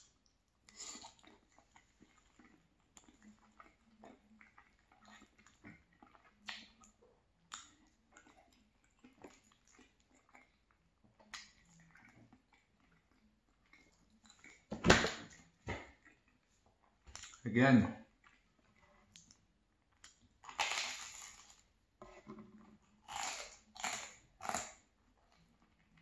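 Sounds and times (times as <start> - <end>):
wet chewing mouth sounds: 0.0 - 14.7, 15.3 - 17.4, 18.1 - 26.0.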